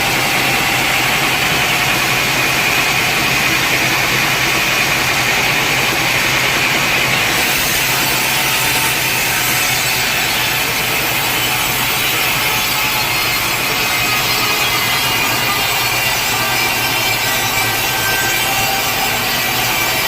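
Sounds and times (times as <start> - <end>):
saw cutting through log: 0.0 - 20.0.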